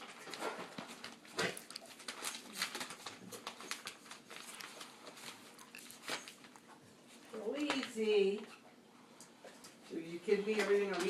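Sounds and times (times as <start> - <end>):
puppies rustling and clicking: 0.0 - 9.9.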